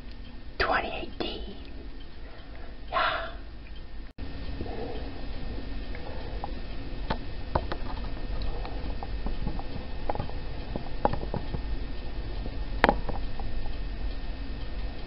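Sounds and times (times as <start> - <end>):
small clicks and ticks: 0.0 - 2.7, 3.6 - 15.0
low steady hum: 0.0 - 15.0.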